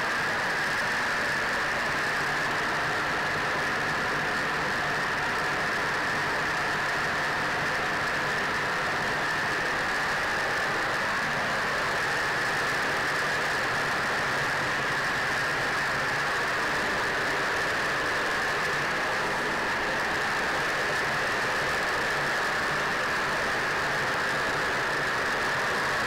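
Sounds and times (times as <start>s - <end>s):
aircraft engines droning in flight: 0.0s - 26.0s.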